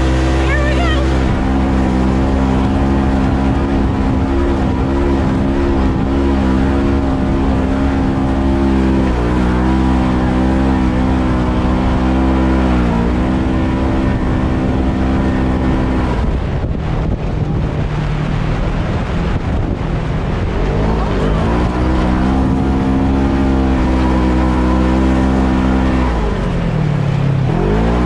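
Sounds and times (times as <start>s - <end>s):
off-road vehicle engine running hard: 0.0s - 28.0s.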